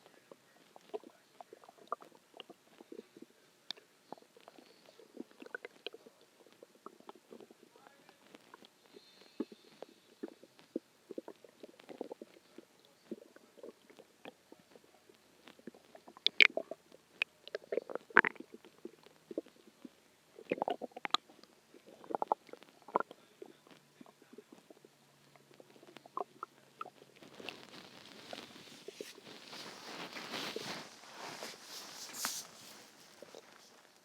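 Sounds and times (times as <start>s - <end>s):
stomach growling and gurgling: 0.0s - 34.0s.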